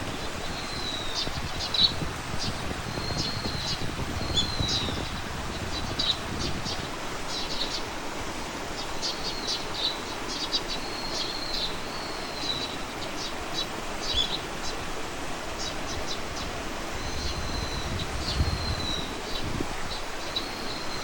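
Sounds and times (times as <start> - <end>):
songbirds chirping: 0.0 - 21.0
steady background hiss: 0.0 - 21.0.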